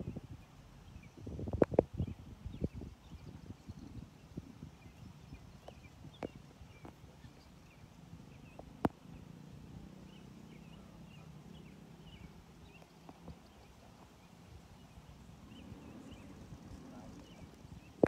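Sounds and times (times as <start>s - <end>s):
low steady rumble: 0.0s - 18.0s
small birds chirping: 0.0s - 18.0s.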